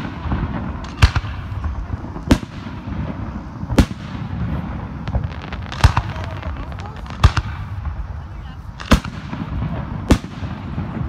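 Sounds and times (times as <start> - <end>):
background rumble: 0.0 - 11.0
firework shells bursting: 0.0 - 11.0
small firework cracks: 0.0 - 11.0.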